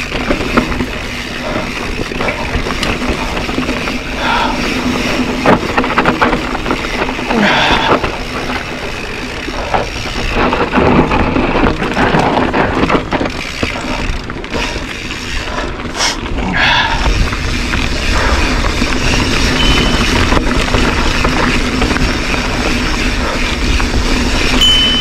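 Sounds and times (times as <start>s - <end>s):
tyres crunching over dirt and stones: 0.0s - 16.4s, 17.1s - 24.5s
bike rattling over bumps: 0.0s - 25.0s
wind buffeting microphone: 0.0s - 25.0s.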